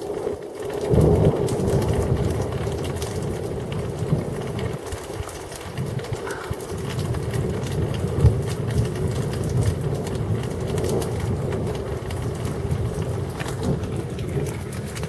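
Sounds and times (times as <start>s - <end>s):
rain pattering: 0.0s - 15.0s
rolling thunder: 0.0s - 15.0s.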